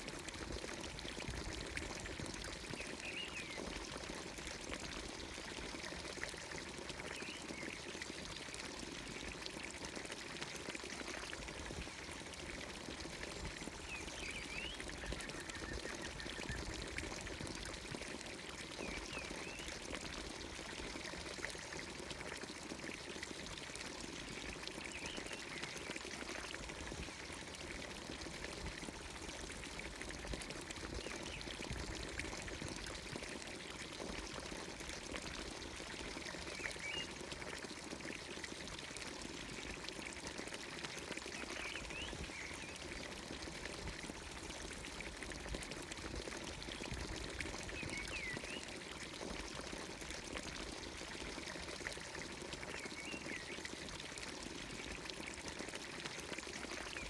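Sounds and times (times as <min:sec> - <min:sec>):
water pouring into trough: 0:00.0 - 0:57.0.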